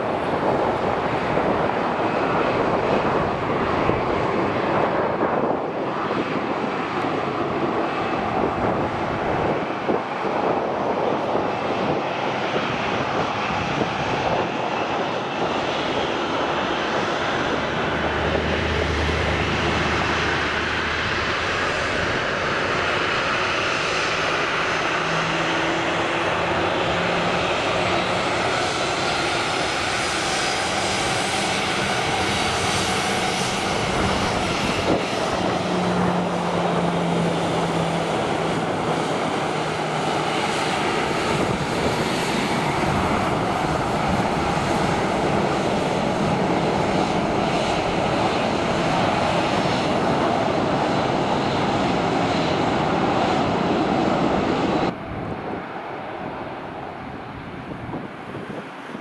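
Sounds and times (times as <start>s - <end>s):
jet engines at taxi power: 0.0s - 59.0s.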